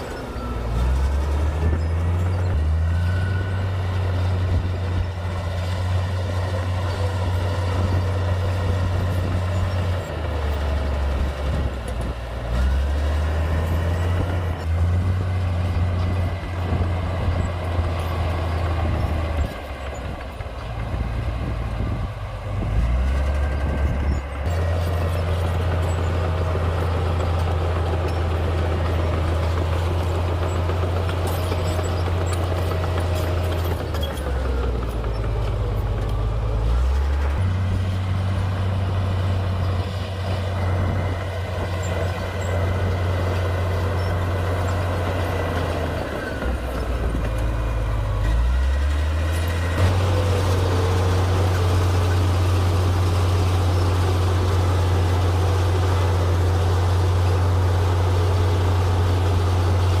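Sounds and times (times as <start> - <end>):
bulldozer diesel engine droning: 0.0 - 60.0.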